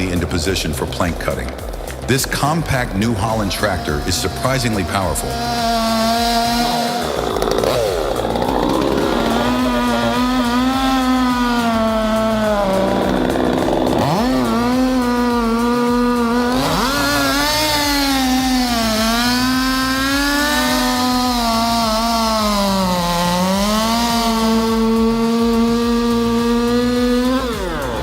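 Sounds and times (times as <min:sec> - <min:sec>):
chainsaw engine at high revs: 0:00.0 - 0:28.0.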